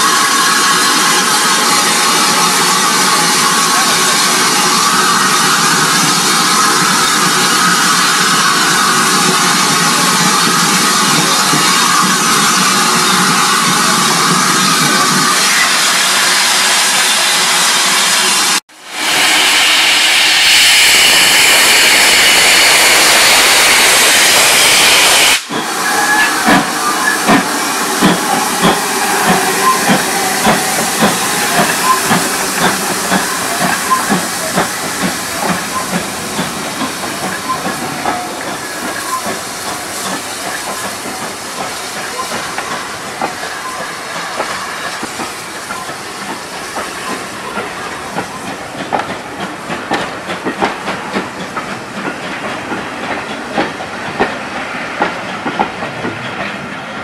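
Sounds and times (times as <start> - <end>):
steam exhaust chuffs: 0.0 - 54.4
steam locomotive hissing: 0.0 - 57.0.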